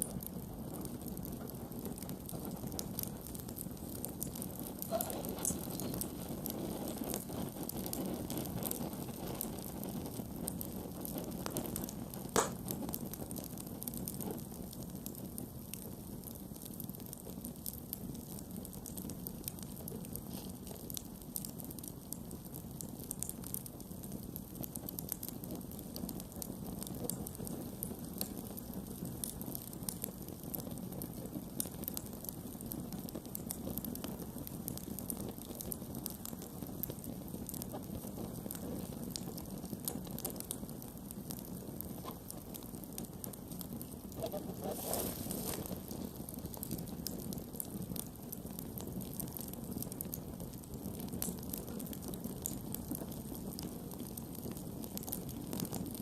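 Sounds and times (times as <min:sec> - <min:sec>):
campfire crackling and popping: 0:00.0 - 0:56.0
low rumble of flame: 0:00.0 - 0:56.0.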